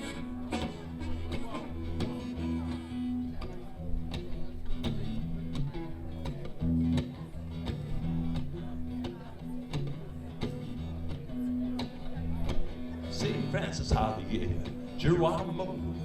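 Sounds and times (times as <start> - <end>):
live band playing instrumental: 0.0 - 16.0.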